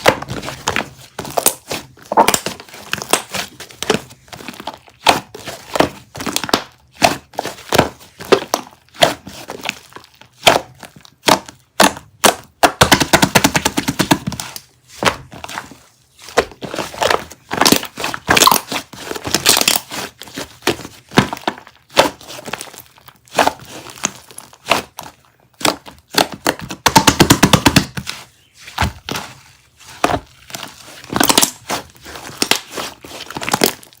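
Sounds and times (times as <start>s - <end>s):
slime popping and crackling: 0.0s - 28.1s, 30.0s - 34.0s.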